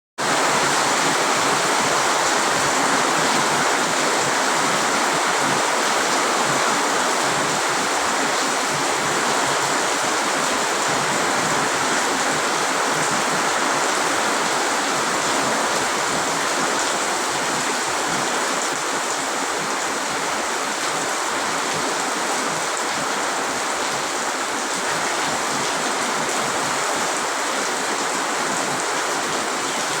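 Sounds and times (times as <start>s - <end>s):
heavy rain pouring: 0.2s - 30.0s.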